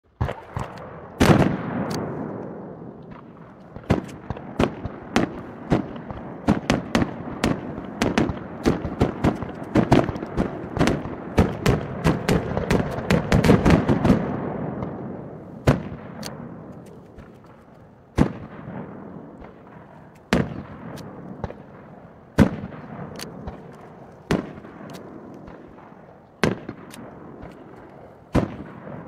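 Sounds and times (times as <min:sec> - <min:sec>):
fireworks bursting: 0:00.2 - 0:29.0.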